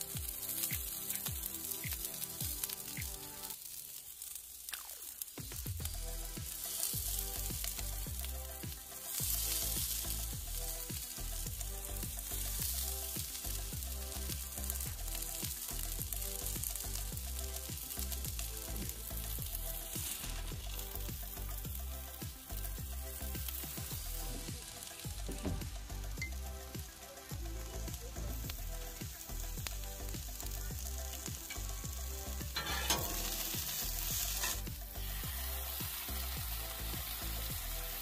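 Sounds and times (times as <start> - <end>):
background music with beat: 0.0 - 3.6, 4.8 - 38.0
vegetables sizzling in hot oil: 0.0 - 38.0.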